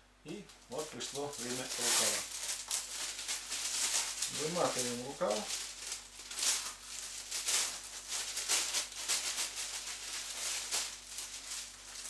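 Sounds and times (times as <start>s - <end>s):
plastic sleeve crinkling: 0.5s - 12.0s.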